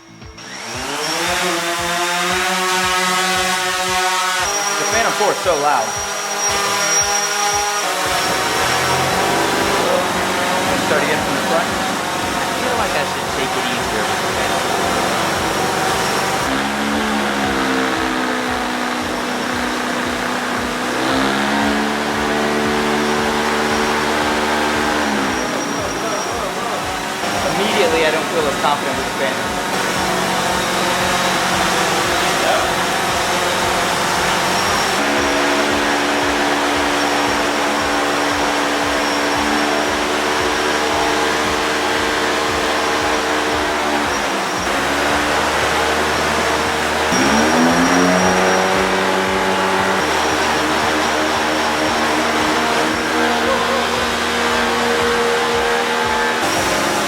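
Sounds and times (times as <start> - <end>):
blower air rushing: 0.0 - 57.0
drone propellers droning: 0.0 - 57.0
small gasoline engine running: 0.0 - 57.0.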